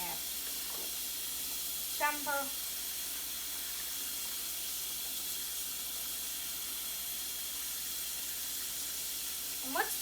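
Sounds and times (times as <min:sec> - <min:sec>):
tap water running into sink: 0:00.0 - 0:10.0.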